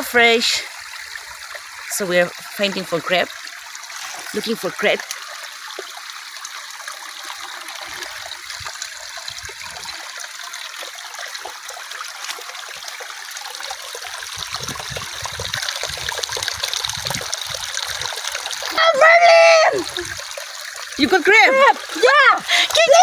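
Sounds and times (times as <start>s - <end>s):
river water flowing over stones: 0.0s - 23.0s.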